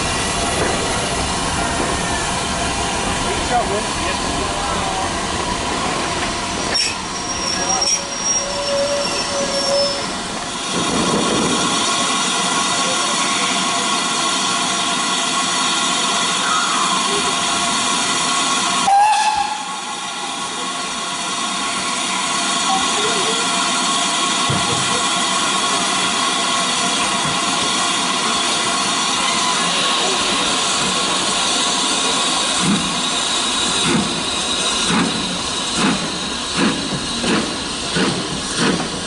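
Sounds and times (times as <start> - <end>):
steam locomotive hissing: 0.0 - 39.0.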